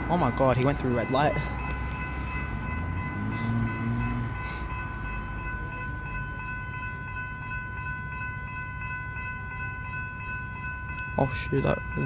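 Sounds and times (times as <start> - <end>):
level crossing bells ringing: 0.0 - 12.0.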